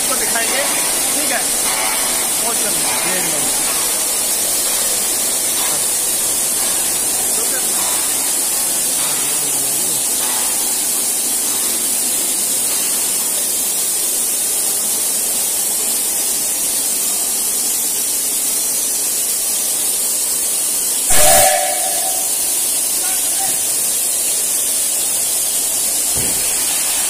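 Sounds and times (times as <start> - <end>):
steam hissing from locomotive: 0.0 - 27.0.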